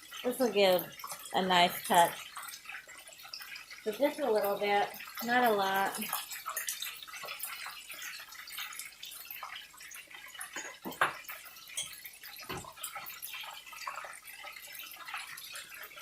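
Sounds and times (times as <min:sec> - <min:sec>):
food sizzling in frying pan: 0:00.0 - 0:16.0.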